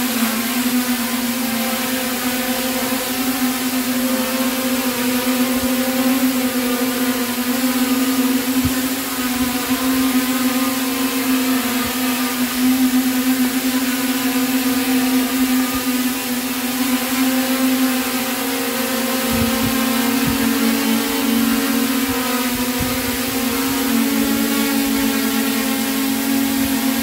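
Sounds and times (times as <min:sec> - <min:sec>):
quadcopter buzzing whine: 0:00.0 - 0:27.0.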